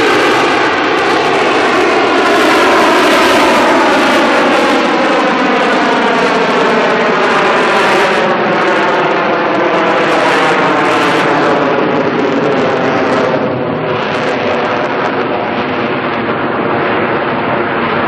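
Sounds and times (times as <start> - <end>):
jet engine roar with whine: 0.0 - 18.0.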